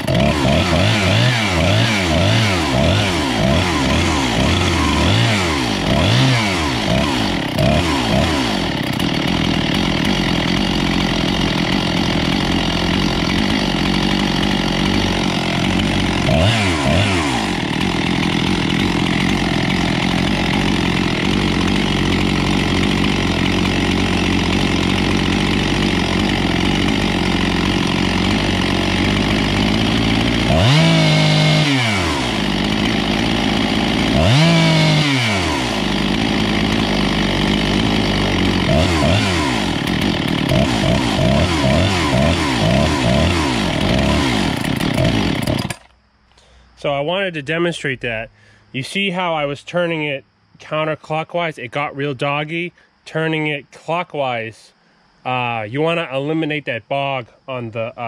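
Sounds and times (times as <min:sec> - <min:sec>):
chainsaw idling and revving: 0:00.0 - 0:46.6.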